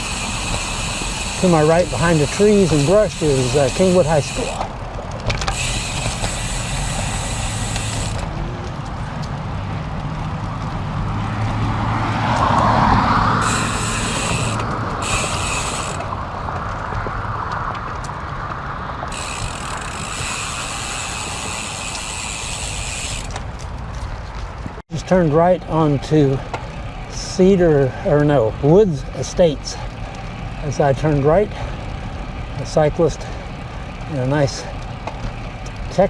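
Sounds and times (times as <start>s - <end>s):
bicycle freewheel hub buzzing: 0.0s - 11.5s, 12.6s - 17.0s, 19.0s - 23.6s, 25.0s - 36.0s
vehicle passing: 0.0s - 35.6s
wind and tyre noise: 0.0s - 36.0s.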